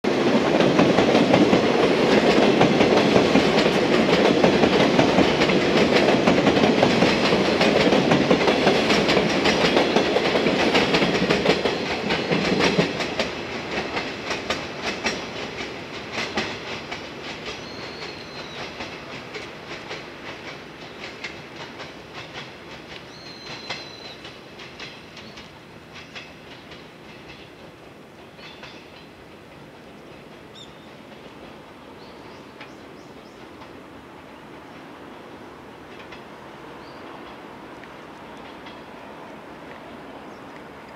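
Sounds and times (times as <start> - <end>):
train wheels clacking on rails: 0.1 - 39.1.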